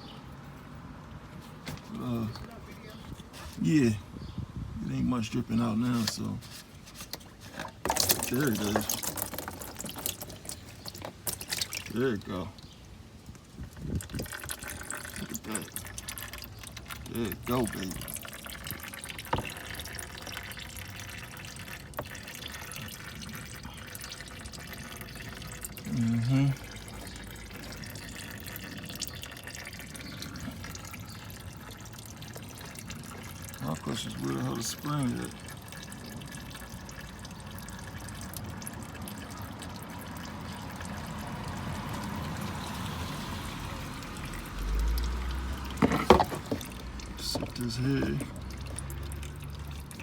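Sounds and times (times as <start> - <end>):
oil pouring into a pan: 7.5 - 50.0.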